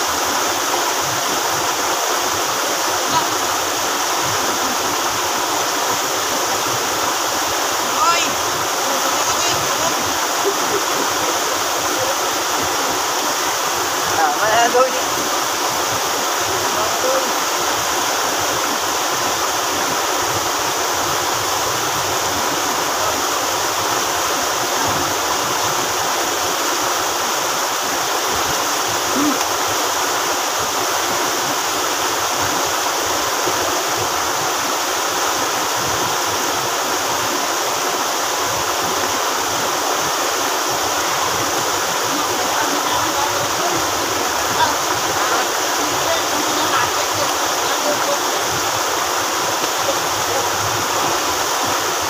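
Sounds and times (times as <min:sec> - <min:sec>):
stream rushing over boulders: 0:00.0 - 0:52.0.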